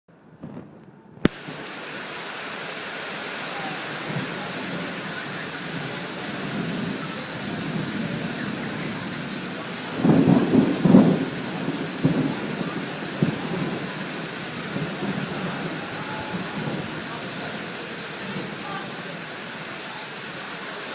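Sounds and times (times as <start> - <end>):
thunder rumbling: 0.3 - 20.9
rain hiss: 0.4 - 20.9.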